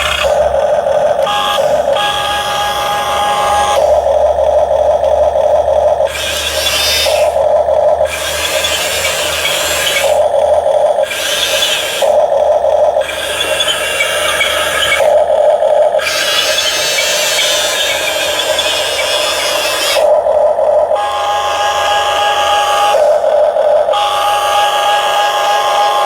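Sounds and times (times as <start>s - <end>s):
toy excavator motors whirring: 0.0s - 26.0s.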